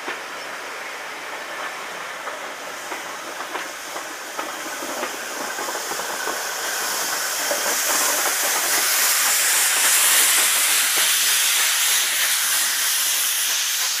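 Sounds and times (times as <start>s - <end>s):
steam hissing from locomotive: 0.0s - 14.0s
wheels clicking on rails: 0.0s - 14.0s.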